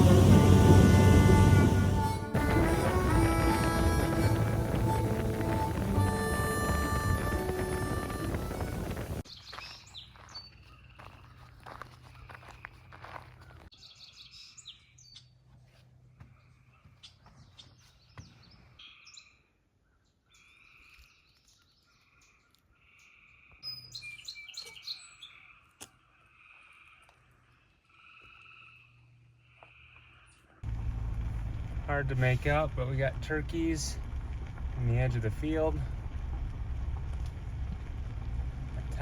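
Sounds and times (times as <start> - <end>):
birds chirping: 0.0 - 15.4, 16.2 - 39.0.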